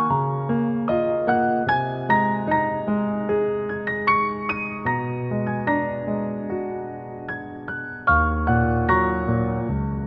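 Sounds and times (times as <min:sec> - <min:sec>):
solo piano piece: 0:00.0 - 0:10.0.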